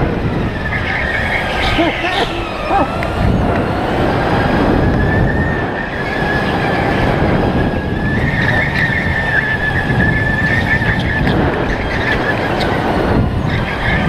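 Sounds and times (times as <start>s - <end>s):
electric motor whine: 0.0s - 14.0s
go-kart rumble: 0.0s - 14.0s.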